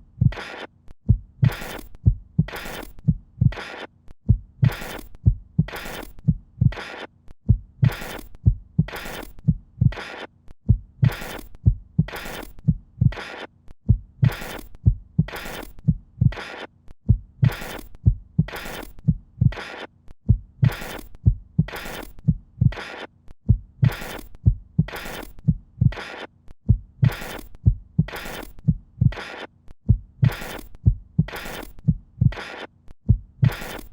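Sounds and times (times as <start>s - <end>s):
low rhythmic thumps: 1.1s - 3.6s, 4.3s - 6.8s, 7.5s - 10.0s, 10.7s - 13.2s, 13.8s - 26.1s, 26.7s - 33.9s.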